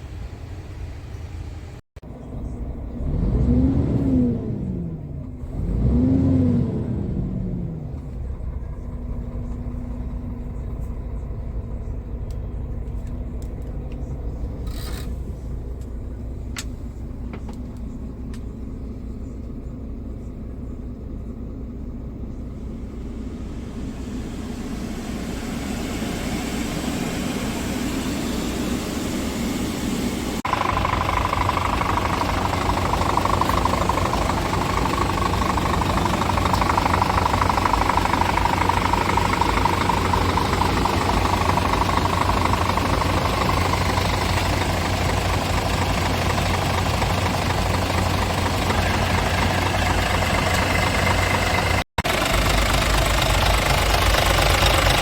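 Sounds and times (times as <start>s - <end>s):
diesel engine idling clatter: 7.4s - 55.0s.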